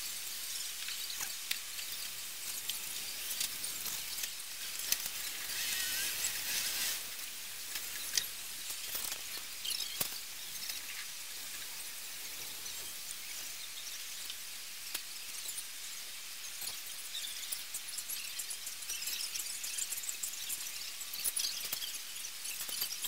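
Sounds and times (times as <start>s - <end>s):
faint clicks and crackles: 0.0s - 23.0s
outdoor background hiss: 0.0s - 23.0s.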